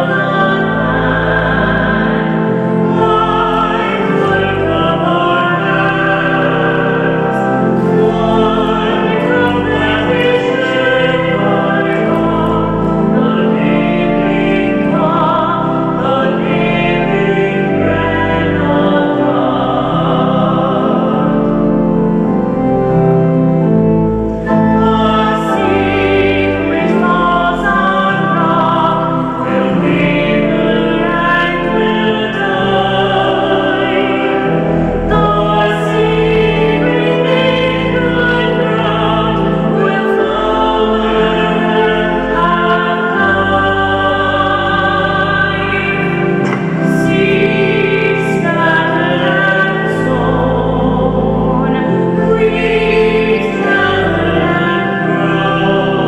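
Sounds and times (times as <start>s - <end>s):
hymn singing: 0.0s - 56.0s
sustained instrumental accompaniment: 0.0s - 56.0s.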